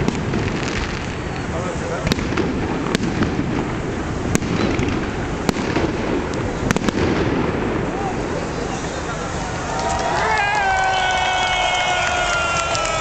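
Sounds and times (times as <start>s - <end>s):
background noise: 0.0s - 13.0s
fireworks bangs: 0.0s - 13.0s.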